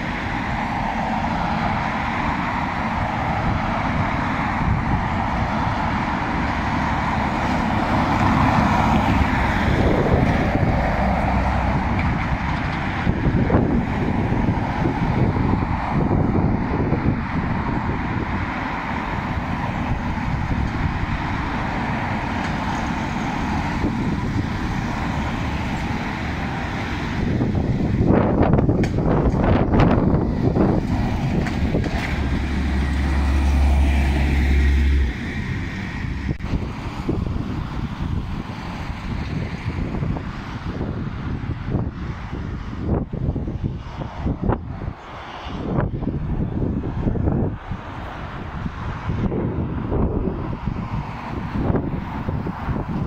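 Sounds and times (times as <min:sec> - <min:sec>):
distant jet engines: 0:00.0 - 0:53.0
wind buffeting microphone: 0:00.0 - 0:53.0.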